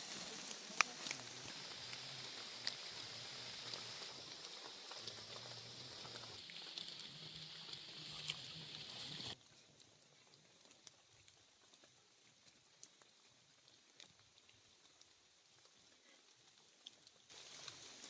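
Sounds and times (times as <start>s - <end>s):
rain pattering: 0.0s - 18.0s
sharp drips and ticks: 0.0s - 18.0s.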